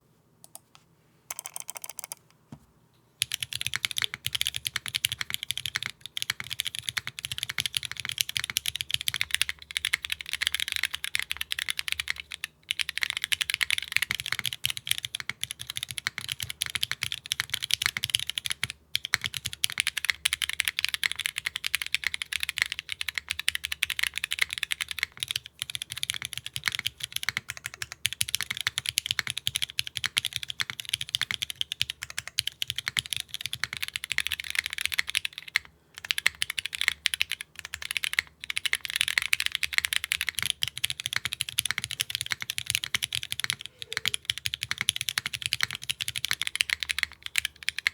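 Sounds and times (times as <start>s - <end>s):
fast mechanical keyboard typing: 1.3s - 2.2s, 3.2s - 47.9s.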